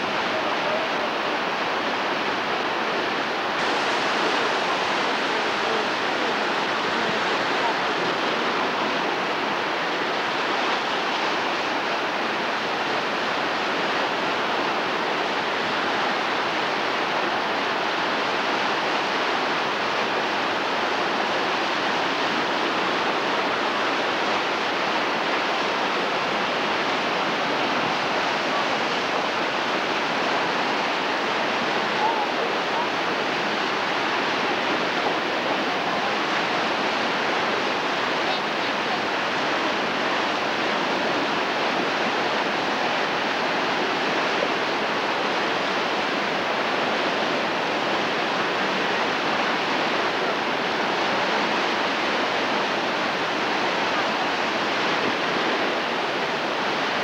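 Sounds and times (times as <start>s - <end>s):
whitewater rushing: 0.0s - 57.0s.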